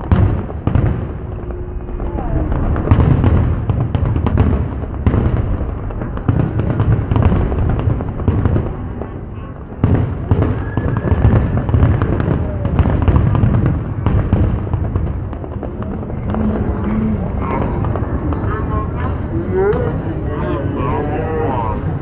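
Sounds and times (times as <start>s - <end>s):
rumble of firework bursts: 0.0s - 20.8s
fireworks bangs and crackling: 0.0s - 22.0s.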